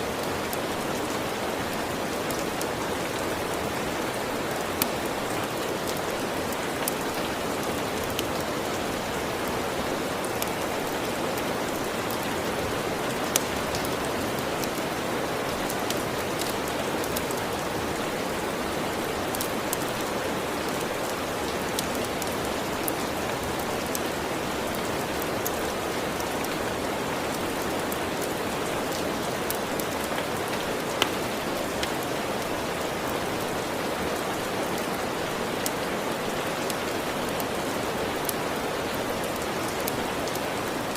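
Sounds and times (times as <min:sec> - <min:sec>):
steady rain: 0:00.0 - 0:40.9
wood fire crackling: 0:00.1 - 0:33.8.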